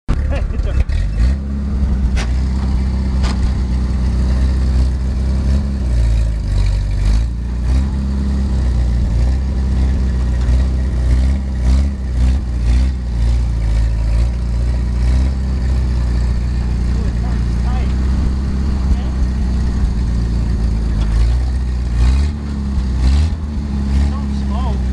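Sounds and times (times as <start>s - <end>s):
jeep engine running: 0.1s - 24.9s.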